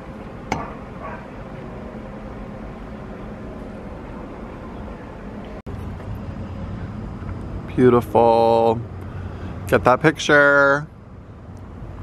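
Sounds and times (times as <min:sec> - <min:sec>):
faint hum: 0:00.0 - 0:12.0
low city rumble: 0:00.0 - 0:12.0.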